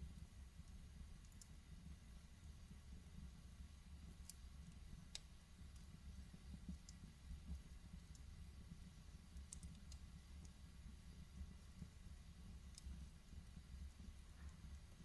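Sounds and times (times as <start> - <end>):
fire crackling pops: 0.0 - 15.0
fire low rumble: 0.0 - 15.0.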